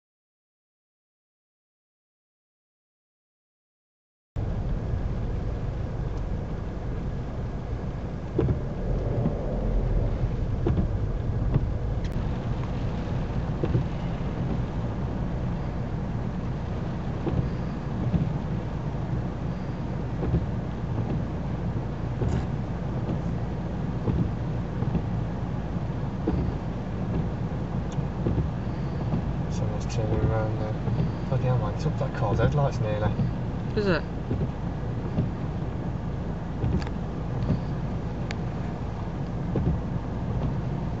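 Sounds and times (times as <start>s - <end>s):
car engine running: 4.4s - 41.0s.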